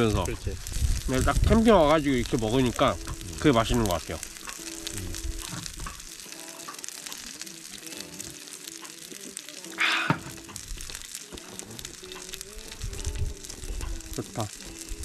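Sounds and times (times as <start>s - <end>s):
light background music: 0.0s - 15.0s
meat sizzling on a grill: 0.0s - 15.0s.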